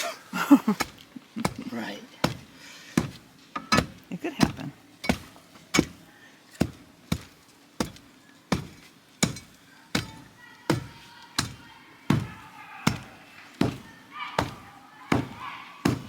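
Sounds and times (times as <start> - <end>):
hand tamper pounding dirt: 0.6 - 16.0.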